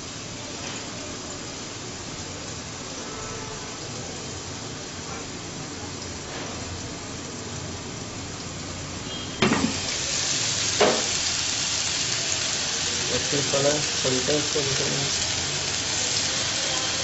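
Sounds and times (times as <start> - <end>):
chicken sizzling in grill pan: 0.0 - 17.0.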